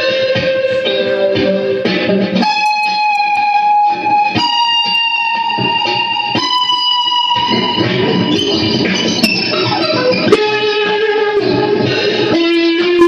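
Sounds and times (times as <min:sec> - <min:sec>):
electric guitar sustained notes: 0:00.0 - 0:13.0
faint picked guitar notes: 0:00.0 - 0:13.0.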